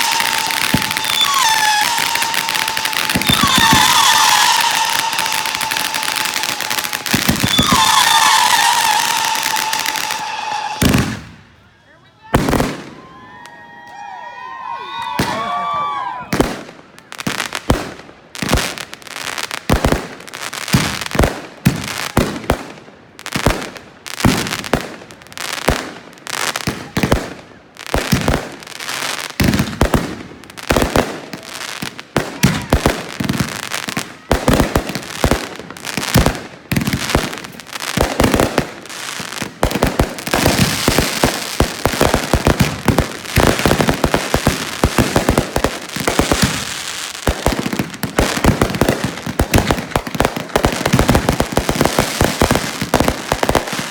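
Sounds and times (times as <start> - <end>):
fireworks banging and crackling: 0.0 - 11.5, 12.2 - 13.6, 15.0 - 53.9.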